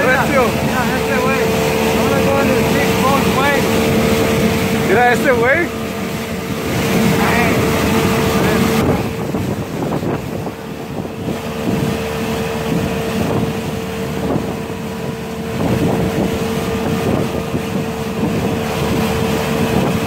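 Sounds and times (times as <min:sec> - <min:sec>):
boat motor droning: 0:00.0 - 0:20.0
water rushing along hull: 0:00.0 - 0:20.0
wind buffeting microphone: 0:00.0 - 0:20.0.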